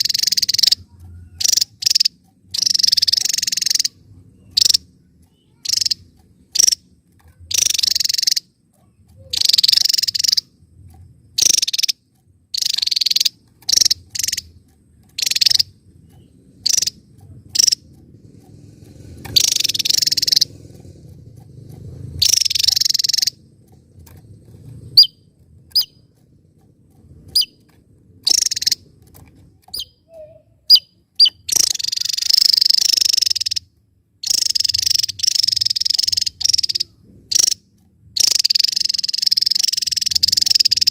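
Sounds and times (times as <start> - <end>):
bird singing buzzy bursts: 0.0 - 6.9, 7.5 - 10.6, 11.3 - 18.0, 18.8 - 21.4, 22.2 - 23.5, 24.9 - 26.1, 27.3 - 28.8, 29.6 - 40.9
thin sharp bird chirps: 0.0 - 10.5, 11.4 - 17.8, 19.2 - 20.7, 22.2 - 23.4, 24.9 - 26.1, 27.3 - 28.8, 29.6 - 37.6, 38.2 - 40.9.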